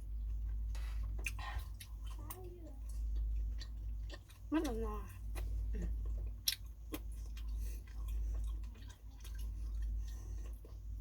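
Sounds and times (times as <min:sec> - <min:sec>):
chewing noodles with mouth smacks: 0:00.0 - 0:11.0.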